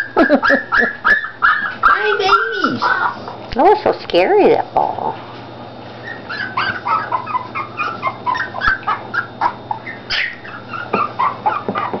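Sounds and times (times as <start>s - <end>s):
puppies whining: 0.0s - 3.5s, 4.8s - 12.0s.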